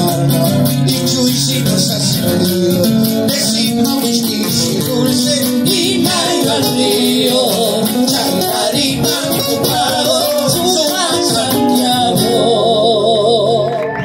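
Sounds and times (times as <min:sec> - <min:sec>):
strummed acoustic guitars: 0:00.0 - 0:14.0
woman and man singing folk song: 0:00.0 - 0:14.0.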